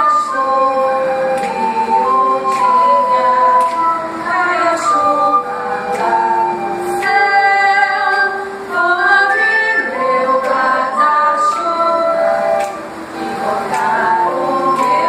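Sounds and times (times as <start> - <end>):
girls singing together: 0.0 - 15.0.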